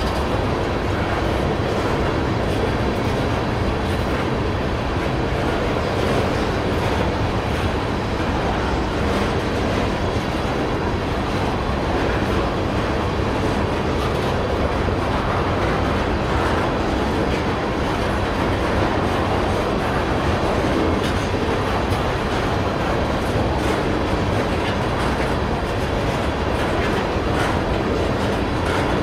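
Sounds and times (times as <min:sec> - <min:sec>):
train rumbling past on rails: 0:00.0 - 0:29.0.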